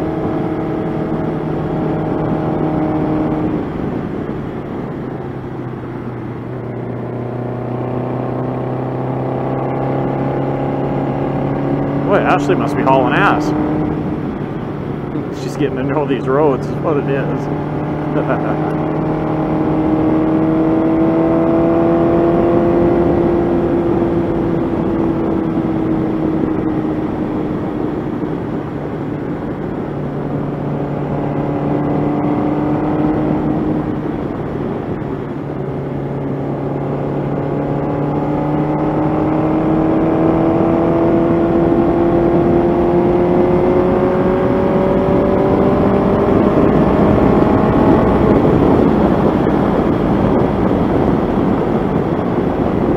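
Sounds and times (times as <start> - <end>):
motorcycle engine running: 0.0 - 52.9
wind over microphone: 0.0 - 52.9.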